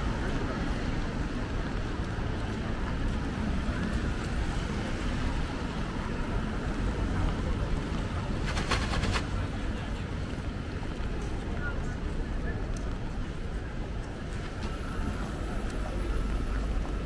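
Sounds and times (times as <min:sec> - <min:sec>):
traffic rumble and hiss: 0:00.0 - 0:17.0.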